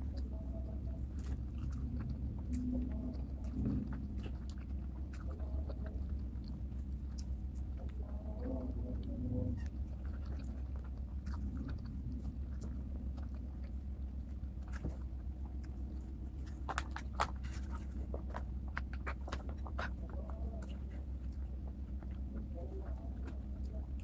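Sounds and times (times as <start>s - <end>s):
person chewing food: 0.0s - 24.0s
steady low hum: 0.0s - 24.0s.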